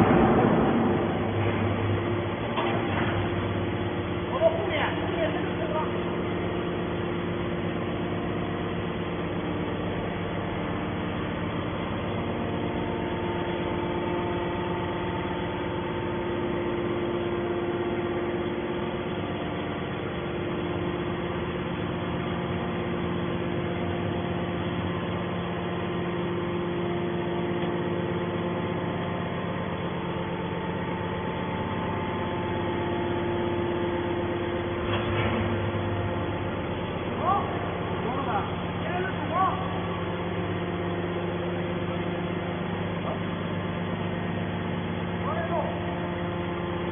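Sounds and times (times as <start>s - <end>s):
hydraulic power unit humming: 0.0s - 46.9s.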